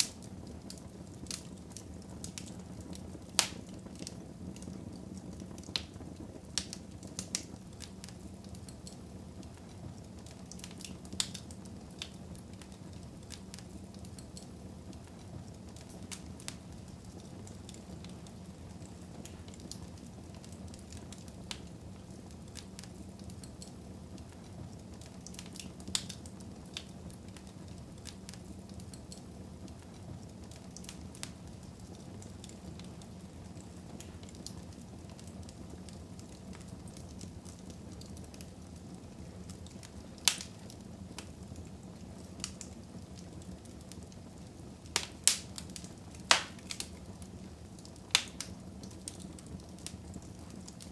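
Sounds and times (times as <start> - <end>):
fire low rumble: 0.0 - 50.9
wood fire crackling and popping: 0.0 - 50.9.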